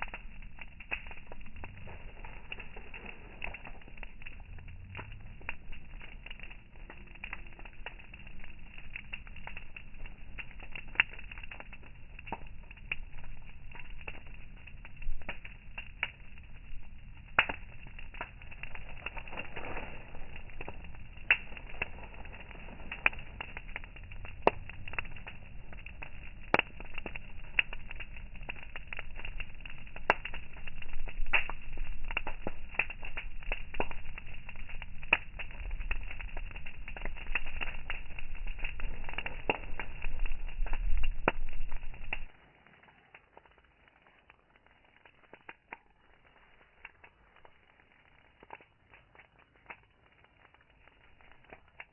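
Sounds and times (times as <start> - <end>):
campfire wood crackling: 0.0 - 51.9
low steady fire hiss: 0.0 - 51.9.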